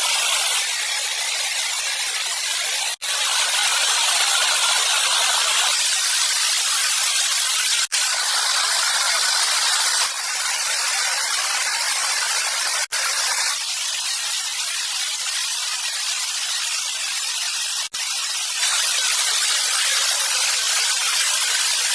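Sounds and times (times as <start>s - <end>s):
rushing water: 0.0s - 17.9s, 18.5s - 21.9s.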